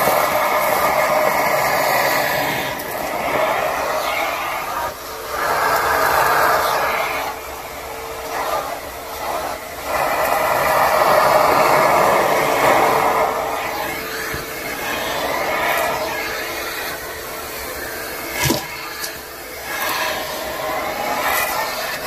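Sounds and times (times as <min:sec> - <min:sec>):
vacuum motor whine: 0:00.0 - 0:22.0
vacuum suction hiss: 0:00.0 - 0:22.0.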